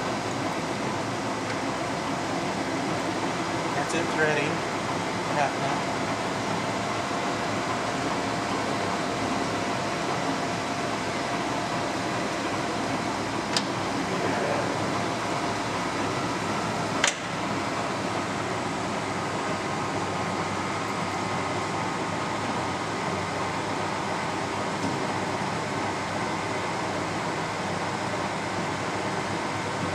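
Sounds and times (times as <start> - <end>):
lathe motor hum: 0.0 - 29.9.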